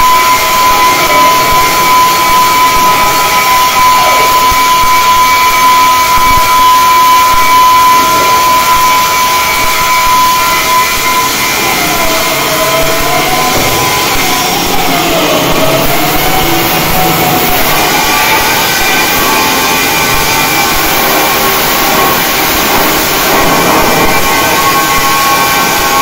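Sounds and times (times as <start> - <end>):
high whine: 0.0 - 26.0
welding arc crackling and hissing: 0.0 - 26.0.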